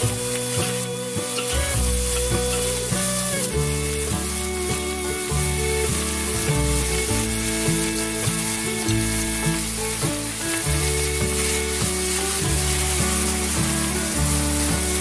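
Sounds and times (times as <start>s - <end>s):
food sizzling in a wok: 0.0s - 15.0s
instrumental background music: 0.0s - 15.0s.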